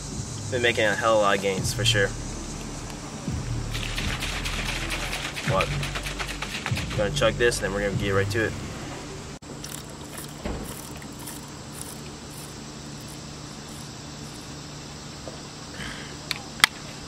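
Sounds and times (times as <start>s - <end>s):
insects chirping: 0.0s - 17.0s
low steady hum: 0.0s - 17.0s.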